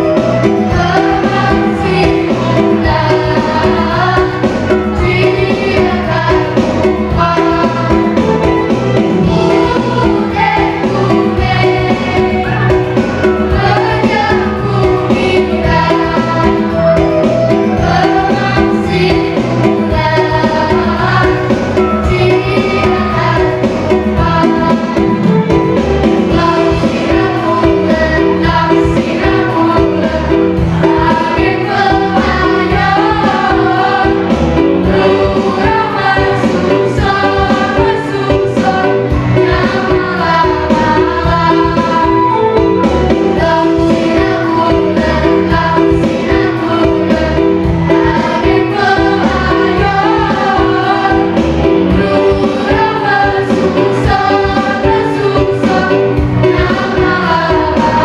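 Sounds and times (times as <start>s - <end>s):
children singing in unison: 0.0s - 58.0s
instrumental accompaniment: 0.0s - 58.0s.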